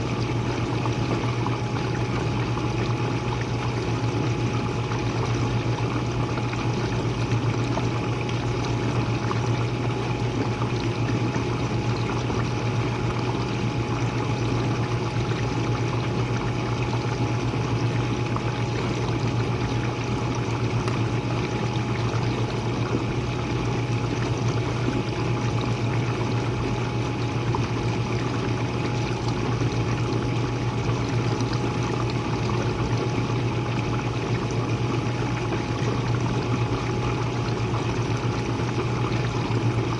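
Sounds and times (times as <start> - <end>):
dishwasher pump motor hum: 0.0 - 39.9
water circulating inside dishwasher: 0.0 - 39.9.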